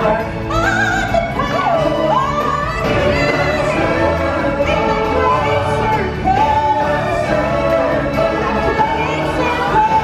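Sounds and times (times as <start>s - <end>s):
stage show music with singing: 0.0s - 10.0s.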